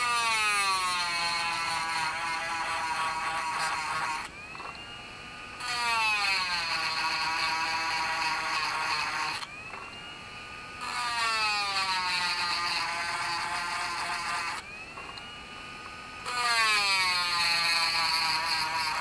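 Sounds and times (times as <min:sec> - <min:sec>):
rotary tool grinding metal: 0:00.0 - 0:04.8, 0:05.5 - 0:09.5, 0:10.8 - 0:15.2, 0:16.2 - 0:19.0.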